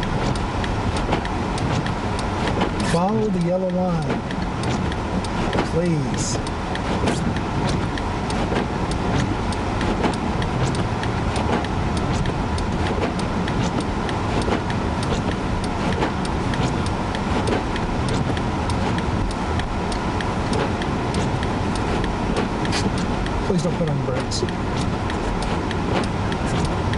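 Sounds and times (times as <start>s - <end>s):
road and engine noise: 0.0s - 26.9s
sharp ticks: 0.0s - 26.9s.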